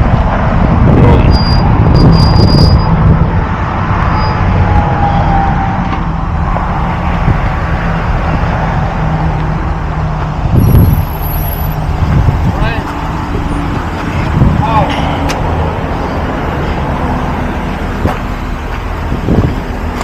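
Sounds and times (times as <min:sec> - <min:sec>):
road and traffic noise: 0:00.0 - 0:20.0
vehicle engine drone: 0:00.0 - 0:20.0.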